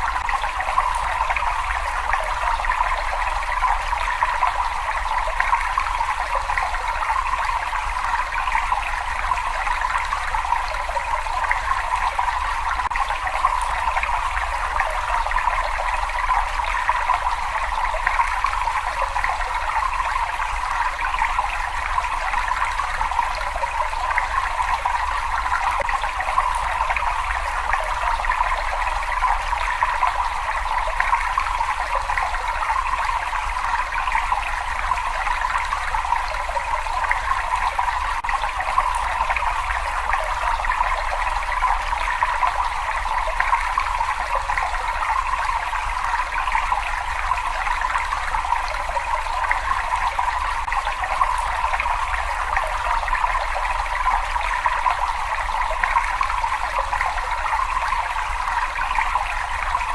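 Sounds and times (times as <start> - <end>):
water running in cave: 0.0 - 59.9.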